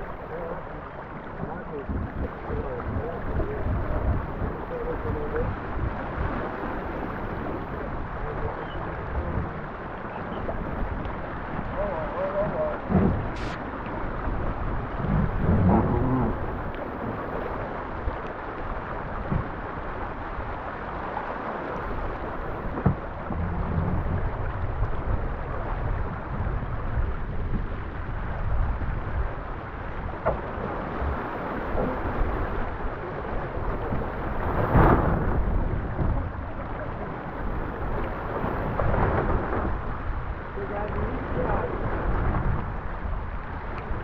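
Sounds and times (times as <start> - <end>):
water rushing along hull: 0.0 - 44.0
wind buffeting microphone: 0.0 - 44.0.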